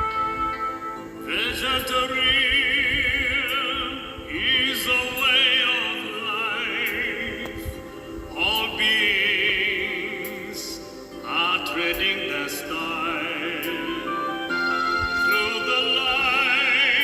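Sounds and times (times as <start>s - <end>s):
sustained musical accompaniment: 0.0s - 17.0s.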